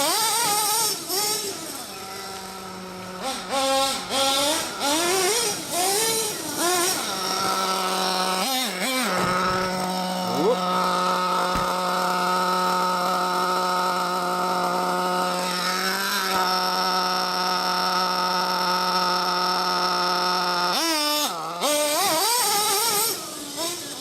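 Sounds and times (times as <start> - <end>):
rc truck engine revving: 0.0 - 24.0.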